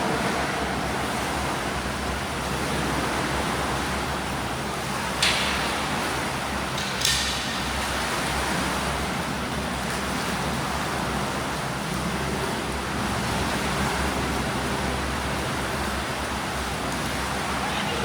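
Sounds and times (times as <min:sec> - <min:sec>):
churning water: 0:00.0 - 0:18.0.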